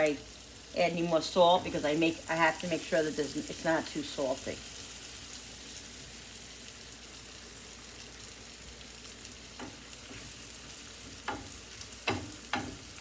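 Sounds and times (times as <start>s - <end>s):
mushrooms sizzling in a frying pan: 0.0s - 13.0s.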